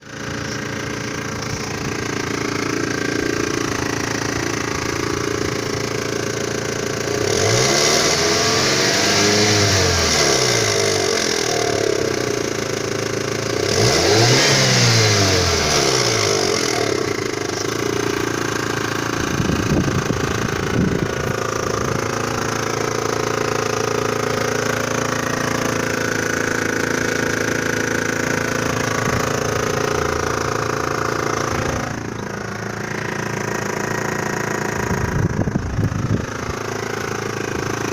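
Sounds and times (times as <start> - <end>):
petrol engine running with knock: 0.0 - 37.9.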